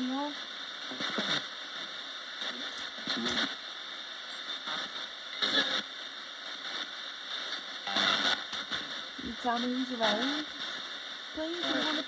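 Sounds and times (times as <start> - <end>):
radio static hiss: 0.0 - 12.0
snatches of broadcast sound: 0.0 - 12.0.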